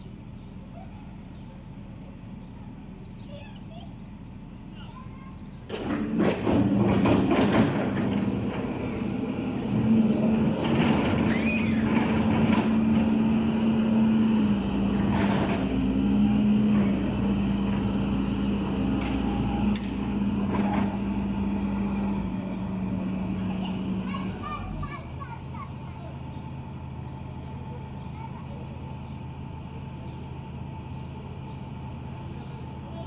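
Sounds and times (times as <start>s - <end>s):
diesel engine revving under load: 5.7s - 32.9s.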